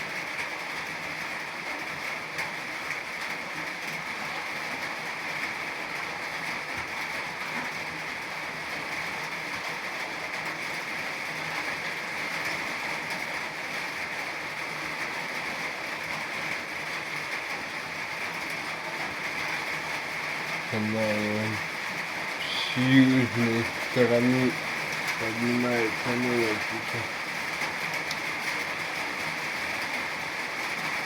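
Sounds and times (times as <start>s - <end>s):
steady rain pouring: 0.0s - 31.0s.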